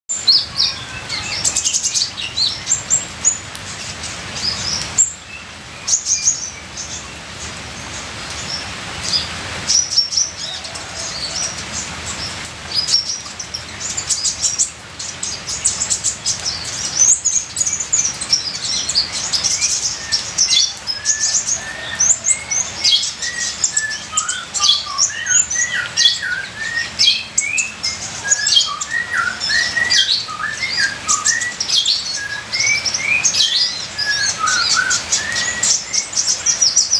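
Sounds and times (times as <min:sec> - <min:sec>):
sunbird singing high chirps: 0:00.1 - 0:36.9
trickling water: 0:00.1 - 0:36.9.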